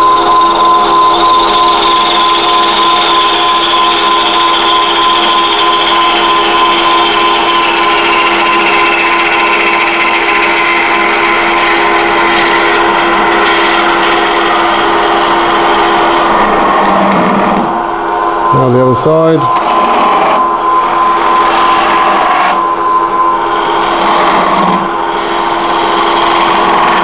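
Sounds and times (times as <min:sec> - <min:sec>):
gouge cutting spinning wood: 0:00.0 - 0:27.0
wood lathe motor hum: 0:00.0 - 0:27.0.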